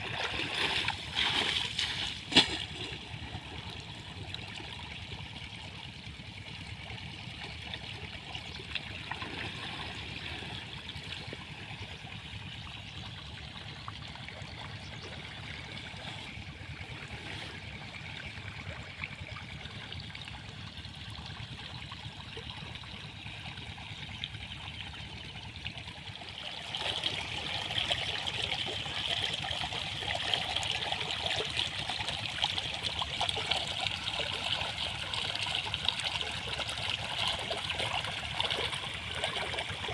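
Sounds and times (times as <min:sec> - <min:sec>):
water flowing from a pipe: 0:00.0 - 0:39.9.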